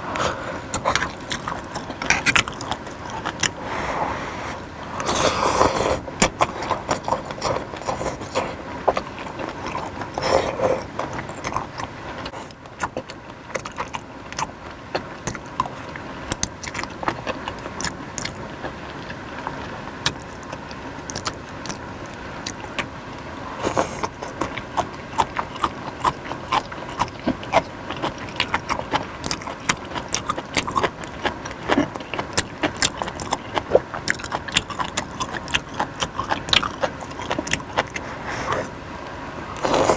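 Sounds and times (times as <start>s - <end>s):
wet chewing sounds: 0.0s - 39.9s.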